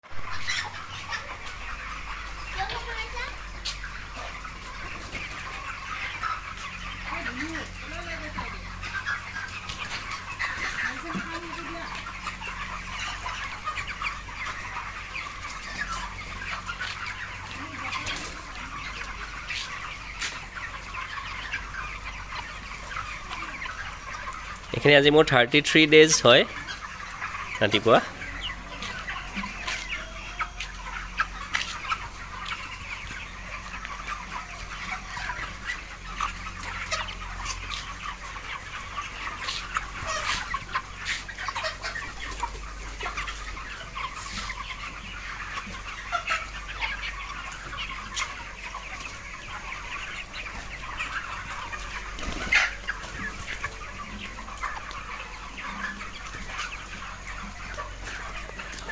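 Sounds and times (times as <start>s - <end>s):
chickens clucking and chirping: 0.0s - 58.9s
louder chicken calls: 0.0s - 58.9s.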